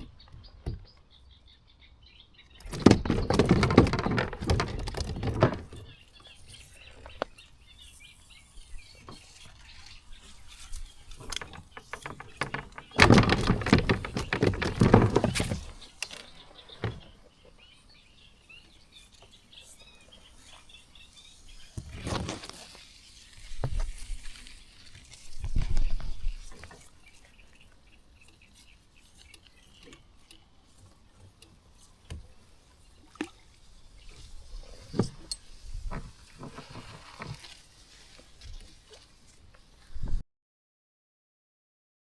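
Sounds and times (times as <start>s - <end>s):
birds chirping: 0.0s - 39.8s
knocking and rustling handling noise: 2.6s - 17.8s, 21.4s - 39.9s.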